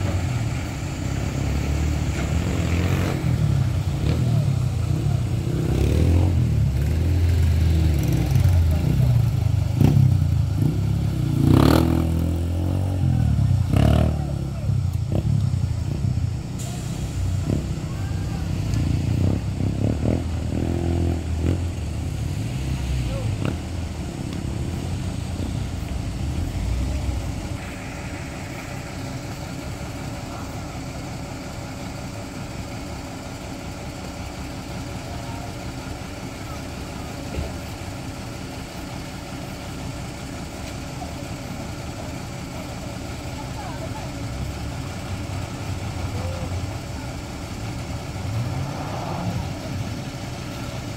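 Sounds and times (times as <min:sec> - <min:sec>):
truck engine idling: 0:00.0 - 0:50.9.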